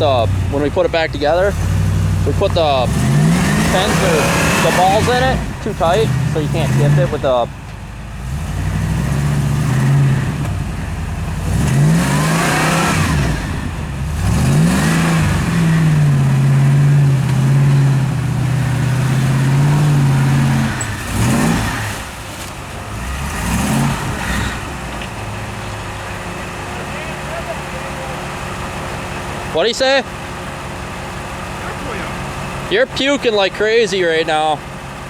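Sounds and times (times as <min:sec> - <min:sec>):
engine revving under load: 0:00.0 - 0:35.0.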